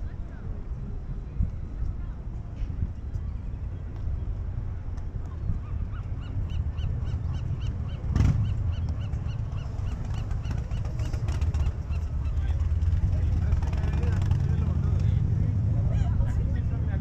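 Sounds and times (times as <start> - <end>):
traffic rumble: 0.0 - 17.0
wind: 0.0 - 17.0.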